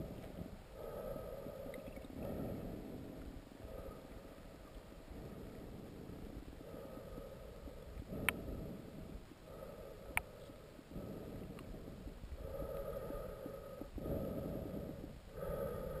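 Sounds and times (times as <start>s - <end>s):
muffled underwater river rumble: 0.0s - 16.0s.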